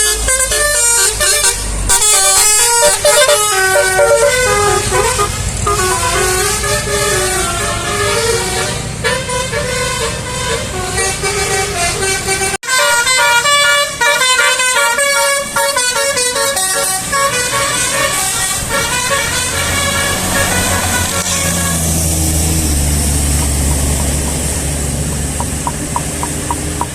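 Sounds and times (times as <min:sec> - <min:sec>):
bus horn playing a melody: 0:00.0 - 0:24.6
bus engine rumble: 0:00.0 - 0:26.9.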